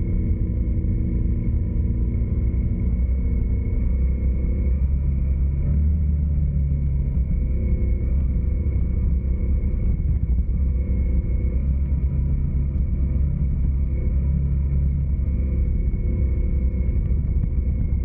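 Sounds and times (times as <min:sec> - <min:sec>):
road noise: 0:00.0 - 0:18.0
vehicle engine drone: 0:00.0 - 0:18.0.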